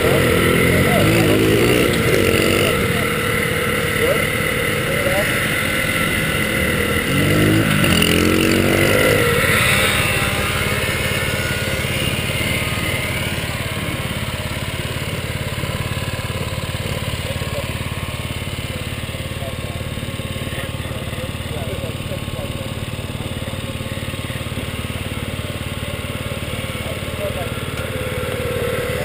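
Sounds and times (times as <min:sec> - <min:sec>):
scooter engine revving: 0:00.0 - 0:29.0.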